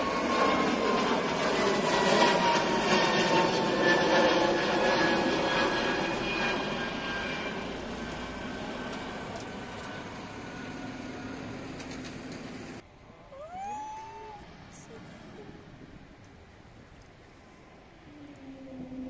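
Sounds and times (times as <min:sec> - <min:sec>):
jet engine roar with whine: 0:00.0 - 0:12.8, 0:14.0 - 0:19.0.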